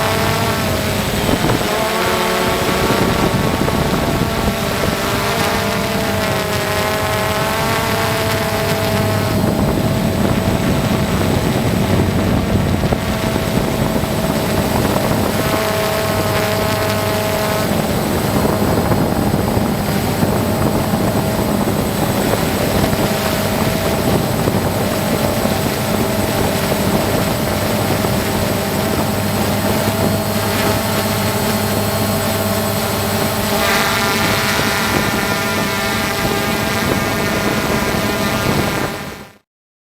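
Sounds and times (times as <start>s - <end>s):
loud engine drone: 0.0s - 39.4s.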